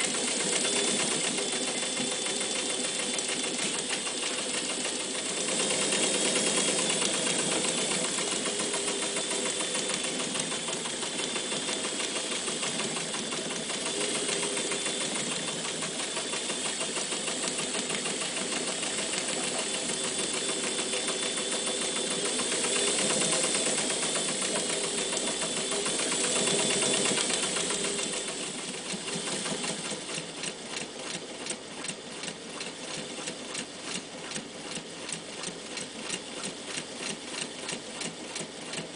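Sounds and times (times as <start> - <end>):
sewing machine stitching: 0.0 - 38.9.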